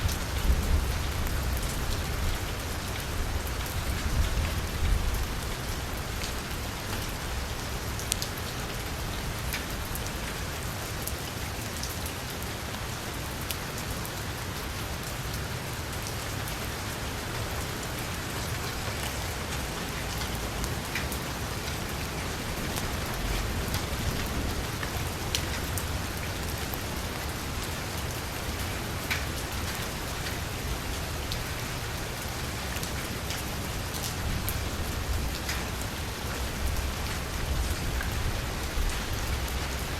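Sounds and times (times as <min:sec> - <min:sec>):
heavy rain on car roof: 0:00.0 - 0:13.9, 0:14.6 - 0:39.9.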